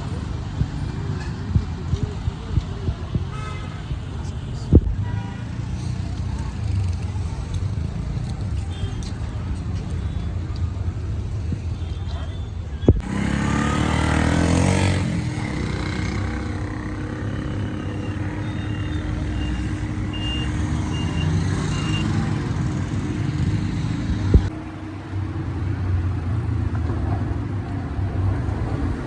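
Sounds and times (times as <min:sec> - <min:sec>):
vehicle engines rumbling: 0:00.0 - 0:29.0.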